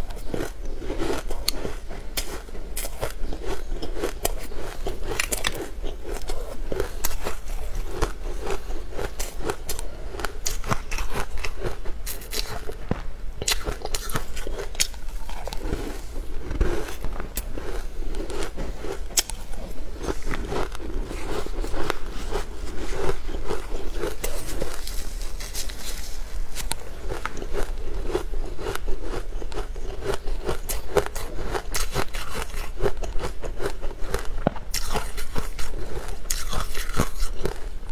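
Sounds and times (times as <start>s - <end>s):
crunchy food chewing: 0.0s - 37.9s
steady low hum: 0.0s - 37.9s.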